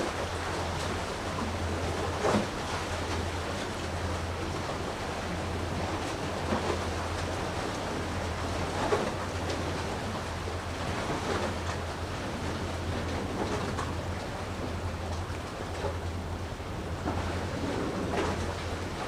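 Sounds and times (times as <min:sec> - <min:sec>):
seawater lapping: 0:00.0 - 0:19.0
steady low rumble: 0:00.0 - 0:19.0.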